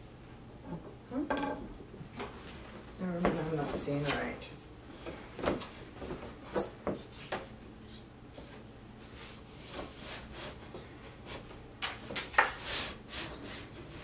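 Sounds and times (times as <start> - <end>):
soft rubbing and shuffling: 2.3 - 14.0.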